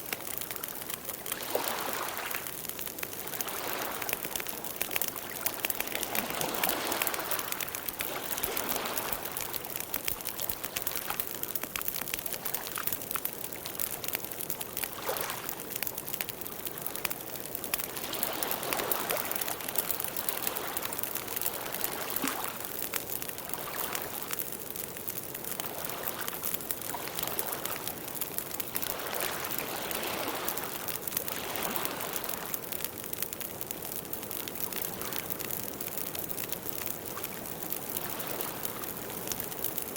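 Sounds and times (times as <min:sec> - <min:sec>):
wood crackling and popping: 0:00.0 - 0:39.9.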